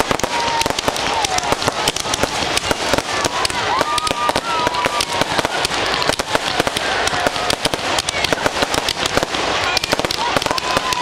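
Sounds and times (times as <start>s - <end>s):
fireworks crackling bangs: 0.0s - 11.0s
fireworks whistling: 0.0s - 11.0s.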